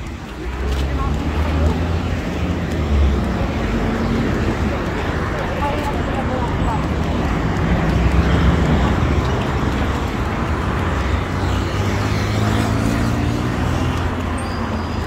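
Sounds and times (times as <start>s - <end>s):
vehicle accelerating: 0.0s - 15.0s.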